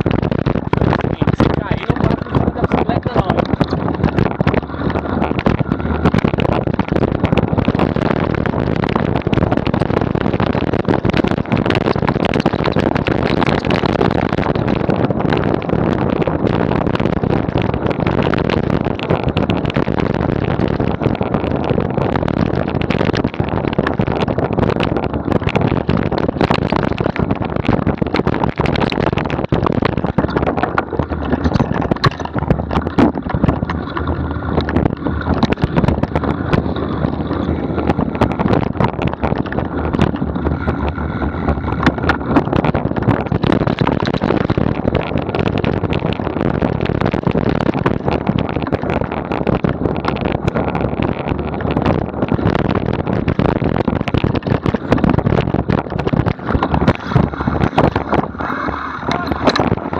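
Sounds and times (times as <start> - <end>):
bike rattling over bumps: 0.0 - 59.9
wind on microphone: 0.0 - 59.9.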